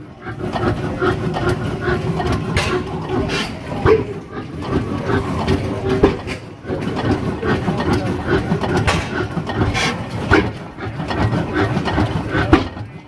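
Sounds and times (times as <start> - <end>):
tractor engine clattering: 0.0 - 13.0.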